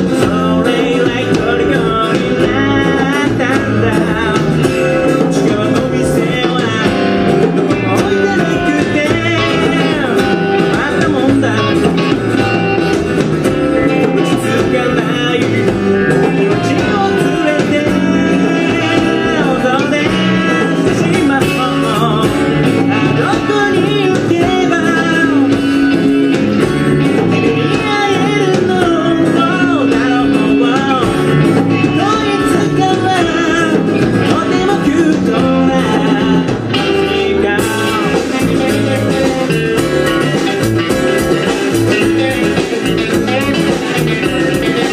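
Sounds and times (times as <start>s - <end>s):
acoustic guitar strumming: 0.0s - 44.9s
bass: 0.0s - 44.9s
drums: 0.0s - 44.9s
electric guitar: 0.0s - 44.9s
man singing: 0.0s - 44.9s.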